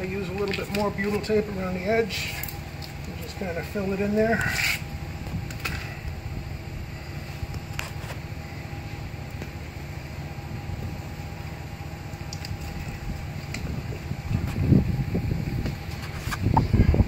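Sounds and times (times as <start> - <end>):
faint steady hum: 0.0 - 17.0
low background rumble: 0.0 - 17.0.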